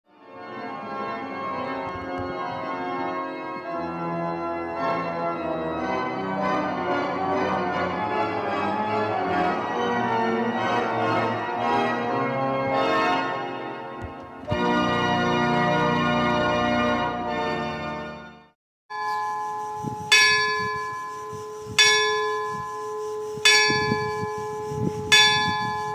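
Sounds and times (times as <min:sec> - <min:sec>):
organ playing sustained chords: 0:00.2 - 0:25.9.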